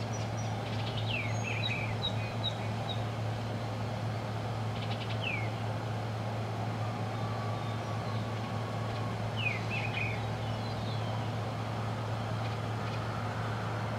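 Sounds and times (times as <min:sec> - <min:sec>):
low hum and rumble: 0:00.0 - 0:13.9.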